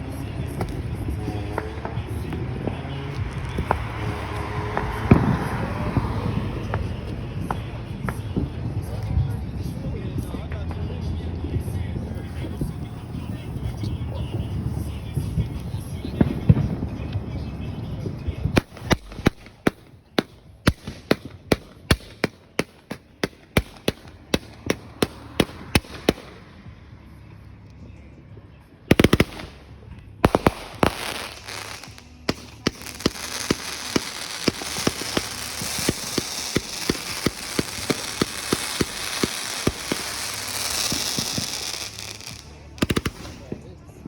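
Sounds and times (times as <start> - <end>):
firecrackers banging: 0.0 - 10.0, 12.1 - 26.8, 28.9 - 44.0.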